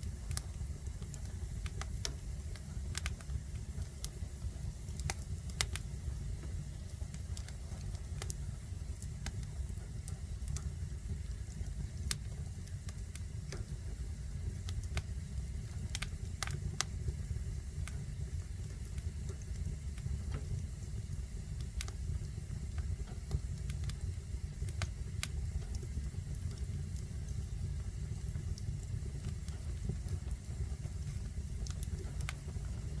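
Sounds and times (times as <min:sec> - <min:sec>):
fire crackling and popping: 0:00.0 - 0:33.0
fire low rumble: 0:00.0 - 0:33.0.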